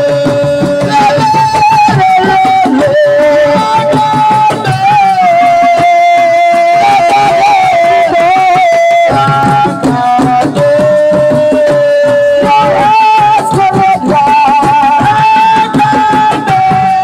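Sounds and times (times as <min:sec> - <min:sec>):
fast hand drum percussion: 0:00.0 - 0:17.0.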